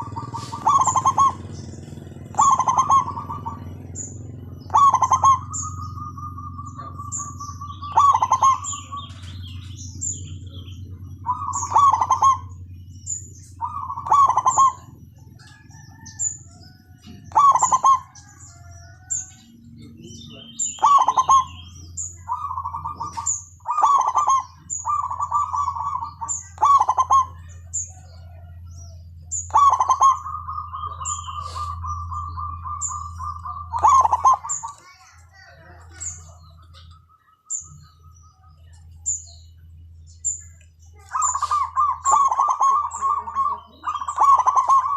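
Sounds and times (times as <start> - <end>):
dove churring call: 0.0 - 44.9
doves cooing: 0.0 - 44.9
small bird chirping: 0.0 - 44.9
steady low hum: 0.0 - 44.9.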